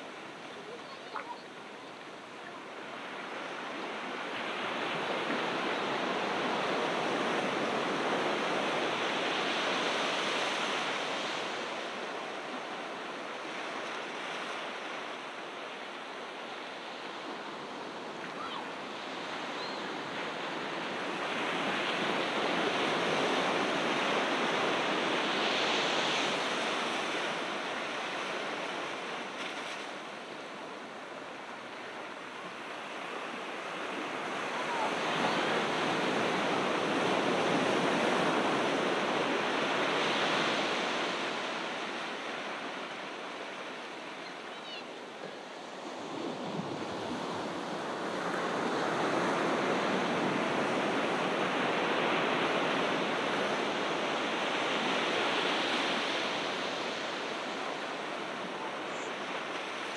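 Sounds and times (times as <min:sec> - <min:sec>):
ocean surf washing onto beach: 0:00.0 - 0:59.9.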